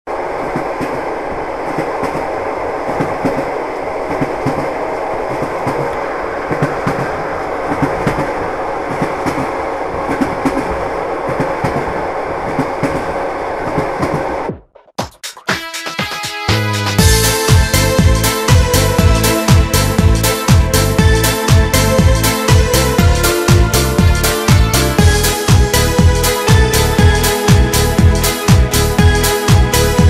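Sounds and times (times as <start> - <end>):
train rumbling: 0.0 - 14.9, 16.4 - 30.0.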